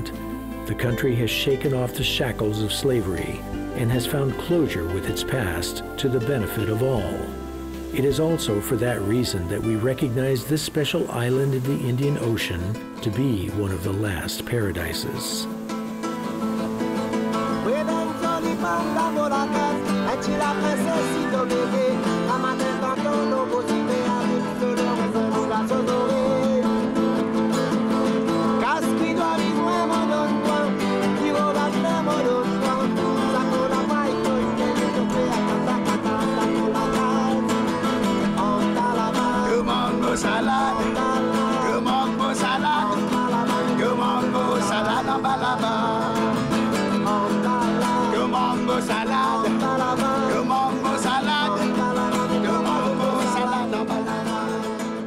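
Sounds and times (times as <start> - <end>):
strummed acoustic guitar music: 0.0 - 55.0.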